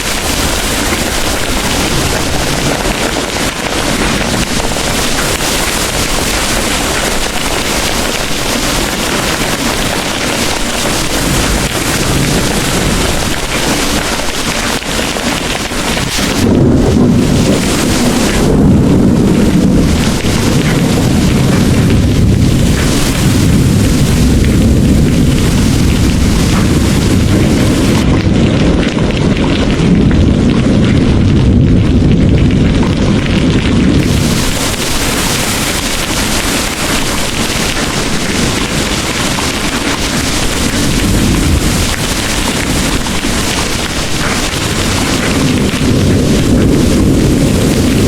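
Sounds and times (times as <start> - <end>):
heavy rain pouring: 0.0 - 48.0
thunder rumbling: 0.0 - 48.0.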